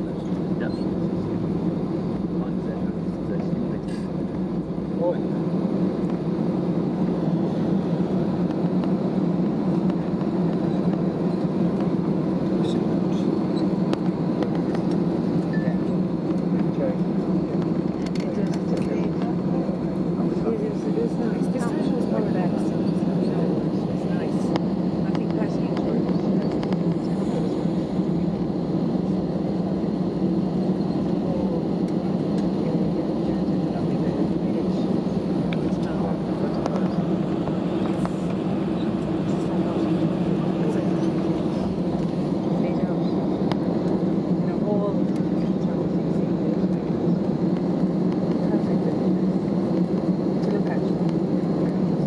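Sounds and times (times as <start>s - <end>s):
aircraft cabin hum: 0.0s - 52.0s
jet engines running at low power: 0.0s - 52.0s.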